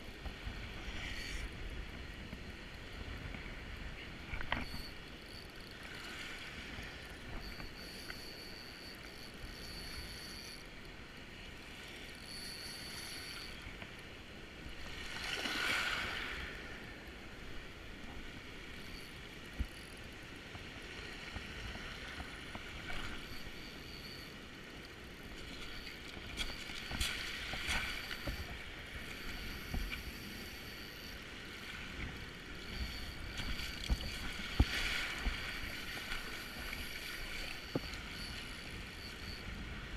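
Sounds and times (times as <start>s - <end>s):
river current: 0.0s - 39.9s.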